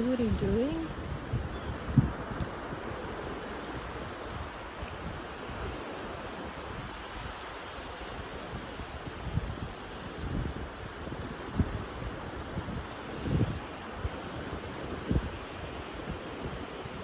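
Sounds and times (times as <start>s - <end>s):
sea surf on shore: 0.0s - 17.0s
wind buffeting microphone: 0.0s - 17.0s.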